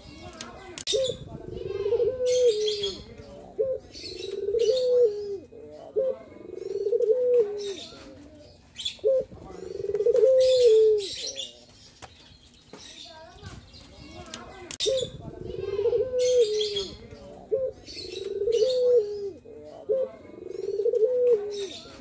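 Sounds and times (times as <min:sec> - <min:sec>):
dove cooing: 0:00.9 - 0:11.6, 0:14.8 - 0:22.0.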